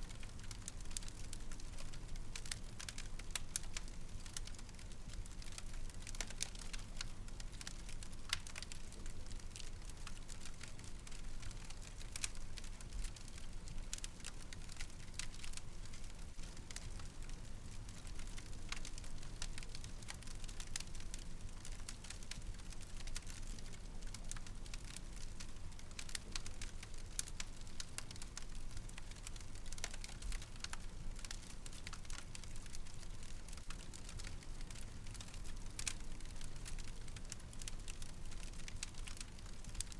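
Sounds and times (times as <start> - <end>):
low rumble of flames: 0.1 - 39.9
wood fire crackling and popping: 0.1 - 39.9.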